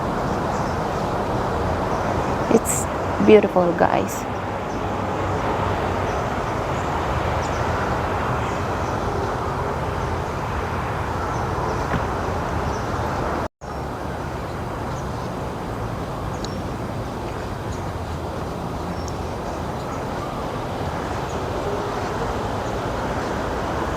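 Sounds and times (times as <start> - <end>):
outdoor background noise: 0.0 - 23.9.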